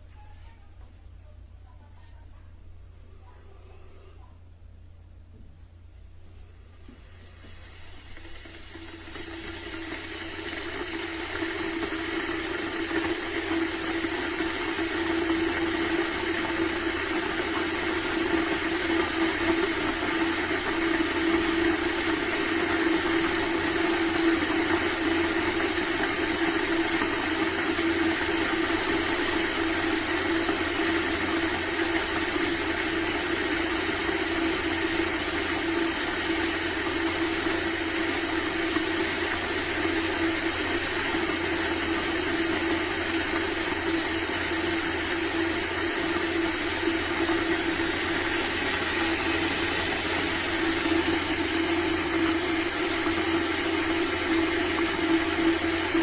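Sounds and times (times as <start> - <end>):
electric kettle heating water: 0.0 - 56.0.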